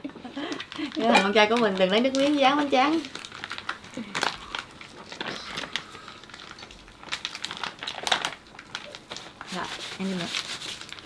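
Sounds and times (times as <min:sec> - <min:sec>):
plastic gloves crinkling: 0:00.3 - 0:11.0.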